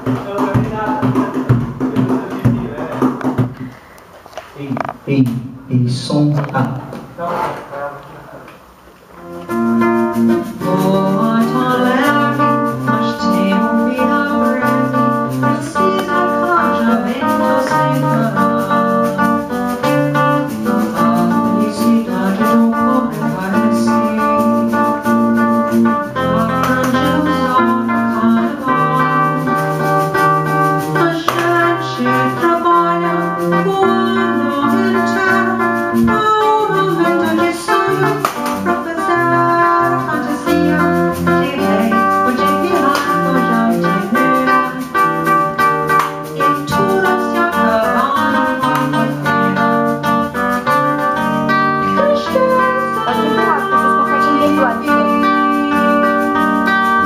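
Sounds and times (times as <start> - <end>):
acoustic guitar: 0.0 - 57.0
person singing: 9.4 - 57.0.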